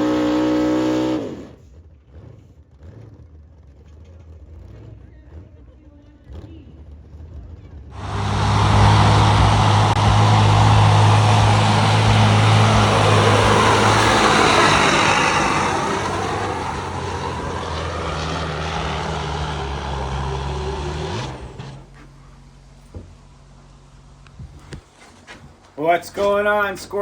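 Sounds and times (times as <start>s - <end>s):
truck engine running hard: 0.0s - 24.8s.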